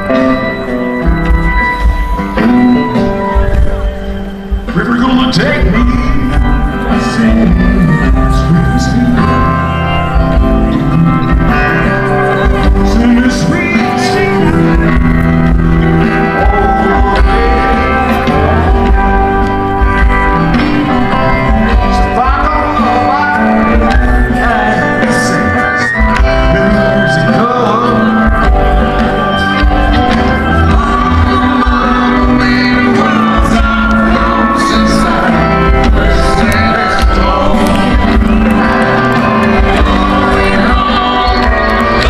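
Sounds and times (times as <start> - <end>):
live rock band playing: 0.0 - 42.0
man singing: 1.5 - 42.0.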